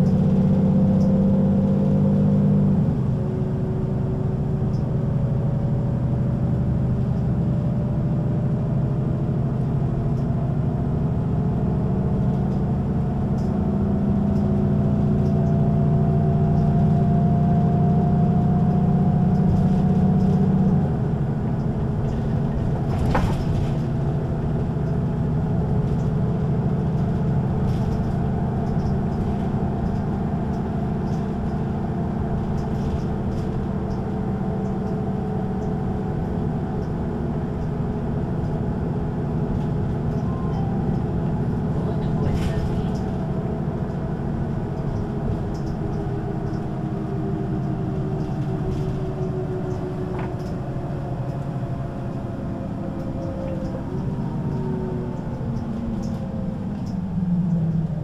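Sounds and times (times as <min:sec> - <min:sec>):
bus engine drone and whine: 0:00.0 - 0:58.0.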